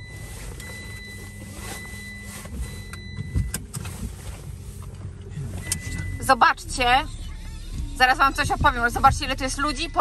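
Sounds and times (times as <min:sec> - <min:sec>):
road vehicle rumble: 0:00.0 - 0:10.0.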